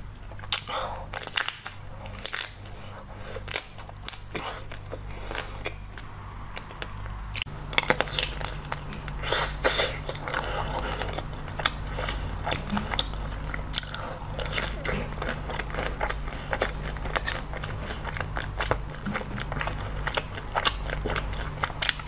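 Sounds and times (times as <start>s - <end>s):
chewing sweets: 0.0s - 22.0s
steady low hum: 0.0s - 22.0s.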